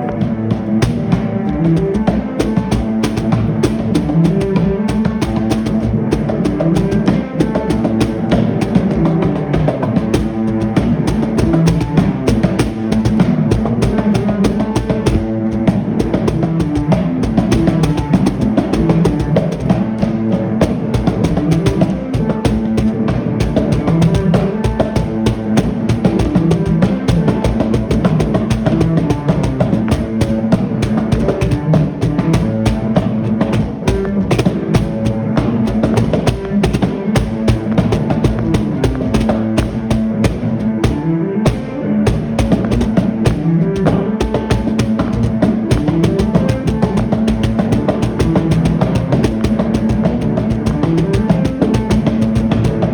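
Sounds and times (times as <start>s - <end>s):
loud drum and guitar music: 0.2s - 52.9s.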